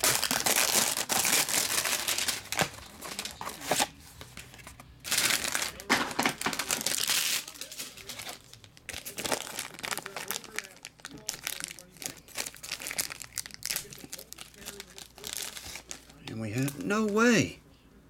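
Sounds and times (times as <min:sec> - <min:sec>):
cellophane wrap crinkling: 0:00.0 - 0:17.3
foil pack crinkling: 0:00.0 - 0:17.3.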